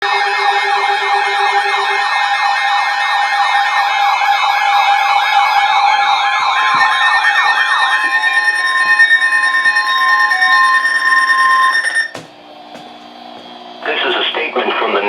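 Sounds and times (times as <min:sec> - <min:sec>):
sweeping electronic siren: 0:00.0 - 0:12.2.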